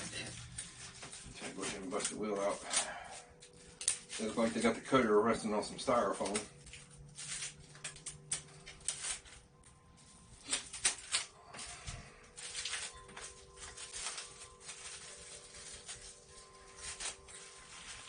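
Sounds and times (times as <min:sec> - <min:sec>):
packing material rustling and scraping: 0:00.0 - 0:18.0.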